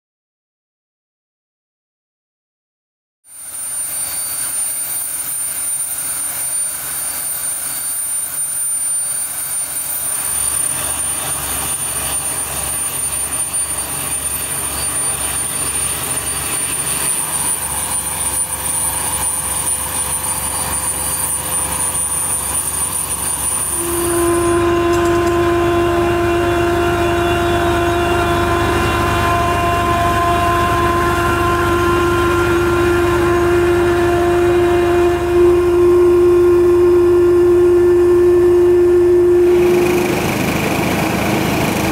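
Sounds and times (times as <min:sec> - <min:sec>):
drilling rig and compressor running: 0:03.3 - 0:41.9
low fast pulsing: 0:04.0 - 0:41.9.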